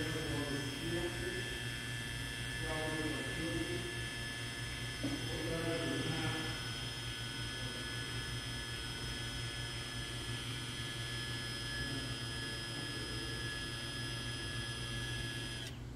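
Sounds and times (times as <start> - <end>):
low electrical hum: 0.0 - 15.9
valve actuator motor whining: 0.0 - 15.9.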